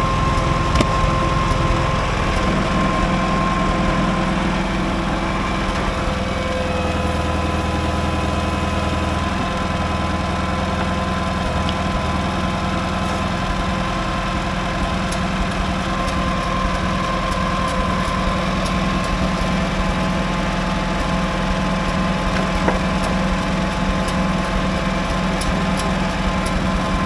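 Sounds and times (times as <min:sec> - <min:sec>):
crawler engine running: 0:00.0 - 0:27.0.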